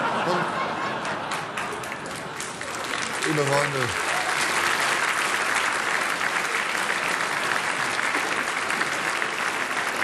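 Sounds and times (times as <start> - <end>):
audience clapping: 0.9 - 10.0.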